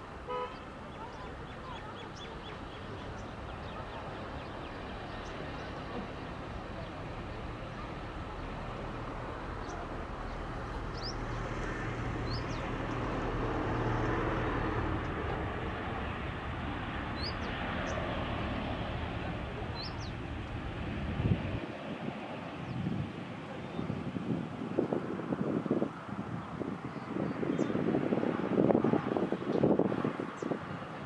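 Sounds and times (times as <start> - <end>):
distant jet engine rumble: 0.0 - 31.0.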